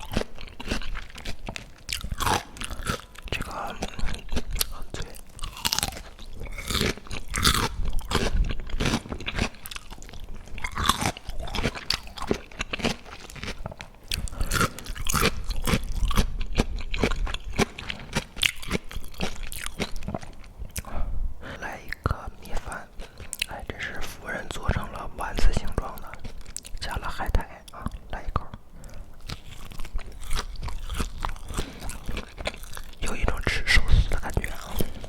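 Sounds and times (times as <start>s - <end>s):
person chewing crunchy food: 0.0s - 35.0s.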